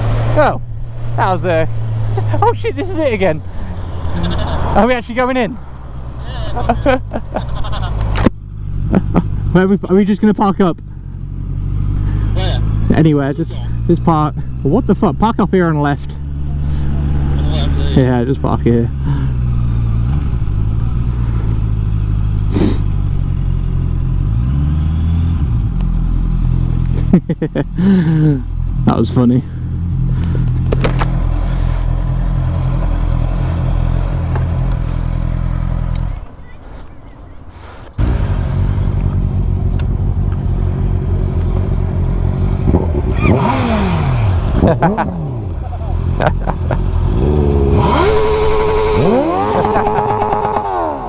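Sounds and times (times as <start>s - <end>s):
motorcycle engine running: 0.0s - 36.6s, 38.0s - 51.0s.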